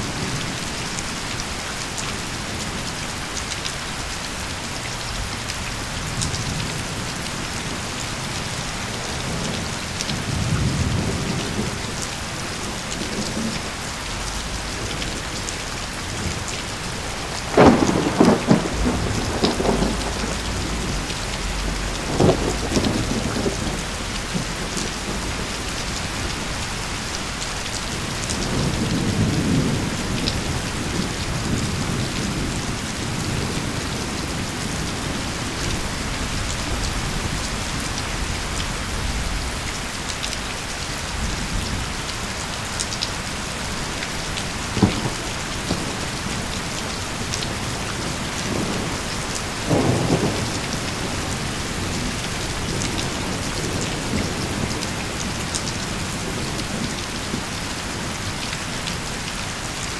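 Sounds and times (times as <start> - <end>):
steady rain: 0.0 - 59.9
crackling thunderclap: 5.0 - 39.7, 40.6 - 59.6
rolling thunder: 5.0 - 39.7, 43.6 - 59.3.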